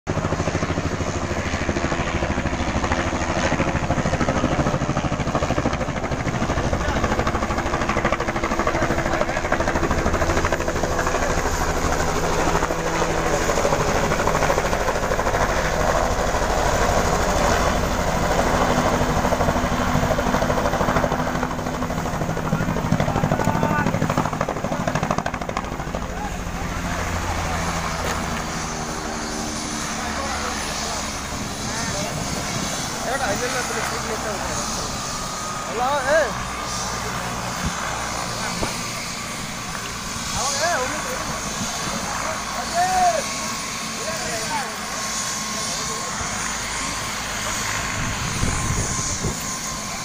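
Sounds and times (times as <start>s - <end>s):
helicopter rotor chopping: 0.1s - 50.0s.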